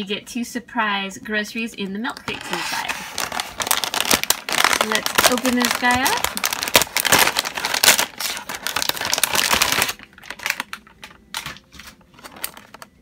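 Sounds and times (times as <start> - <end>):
plastic bag crinkling: 2.3 - 13.0.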